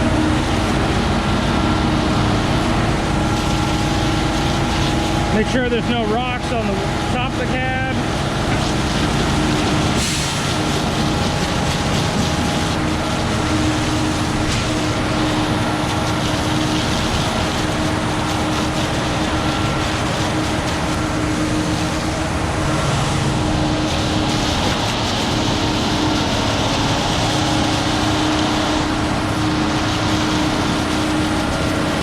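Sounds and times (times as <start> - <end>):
concrete mixer truck engine running: 0.0 - 32.0.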